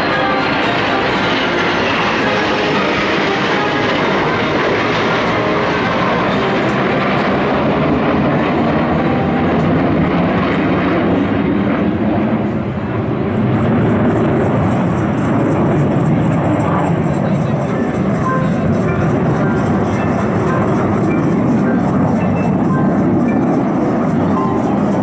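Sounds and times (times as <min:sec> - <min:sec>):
jet fighters roaring: 0:00.0 - 0:25.0.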